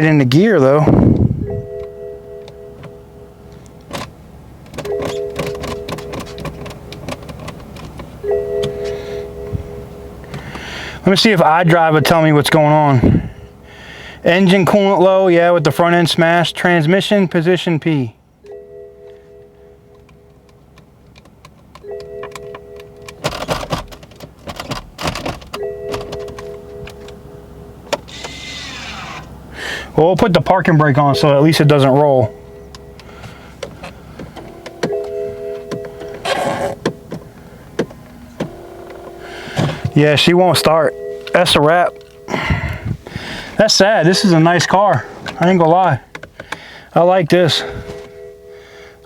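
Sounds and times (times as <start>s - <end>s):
dashboard warning chime: 0.0s - 4.2s, 4.8s - 7.0s, 8.2s - 20.7s, 21.8s - 23.2s, 25.5s - 28.3s, 29.9s - 49.0s.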